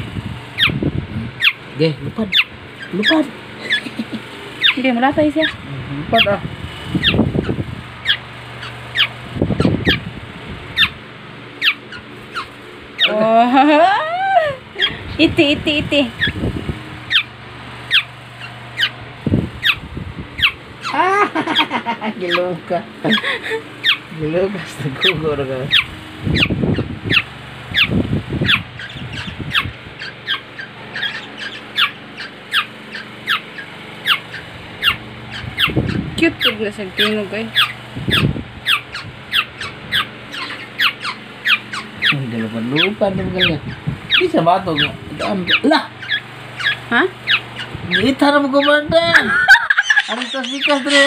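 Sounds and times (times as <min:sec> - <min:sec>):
low rumble of movement: 0:00.0 - 0:21.2, 0:22.6 - 0:49.8
birds calling with falling pitch: 0:00.0 - 0:51.0.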